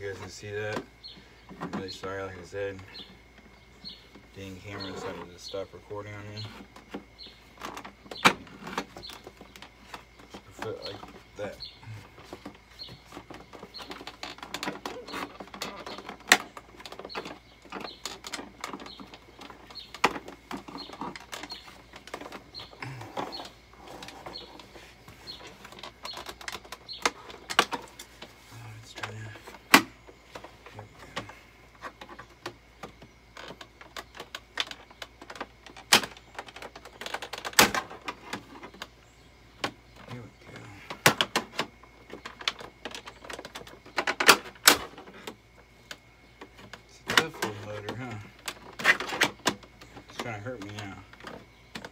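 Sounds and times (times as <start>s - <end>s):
wooden boards knocking and cracking: 6.2s - 28.4s, 29.0s - 39.0s, 39.6s - 51.9s.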